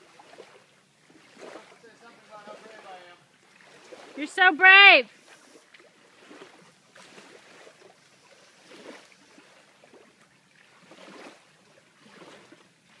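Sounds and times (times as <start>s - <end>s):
water lapping against a dock: 0.0s - 13.0s.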